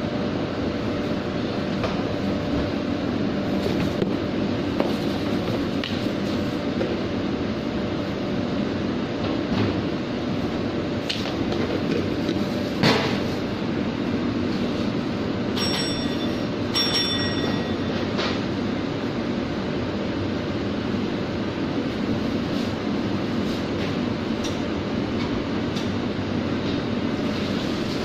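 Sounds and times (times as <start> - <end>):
kitchen exhaust hood noise: 0.0 - 28.0.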